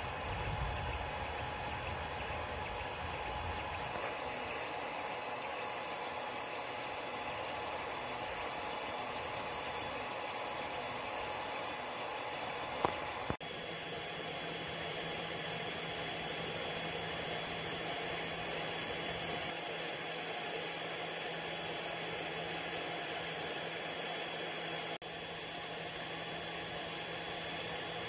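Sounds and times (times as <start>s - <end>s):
printer fans and motors whirring: 0.0s - 28.0s.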